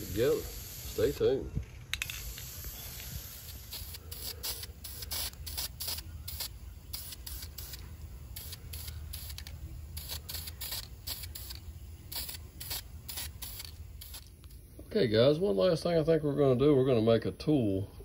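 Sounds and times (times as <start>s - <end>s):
spray paint can hissing: 0.0s - 14.6s.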